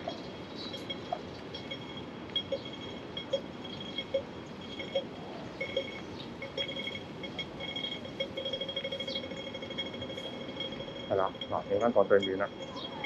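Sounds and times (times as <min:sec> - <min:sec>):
crossing signal ticking beeps: 0:00.0 - 0:13.0.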